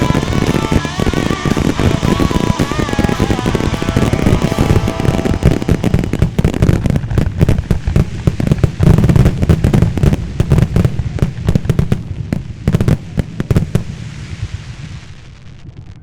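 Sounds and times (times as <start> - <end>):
firework shells bursting: 0.0 - 13.9.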